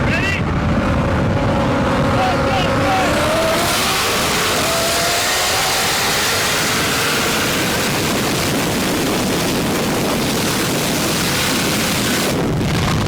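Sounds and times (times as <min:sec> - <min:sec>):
drag car engine revving: 0:00.0 - 0:13.0
loud steady rushing noise: 0:00.0 - 0:13.0.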